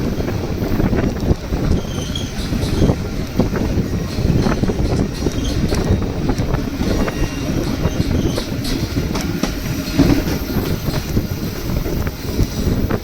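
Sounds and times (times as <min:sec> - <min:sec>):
train rumbling along track: 0:00.0 - 0:13.0
clacks and rattles: 0:00.9 - 0:12.1.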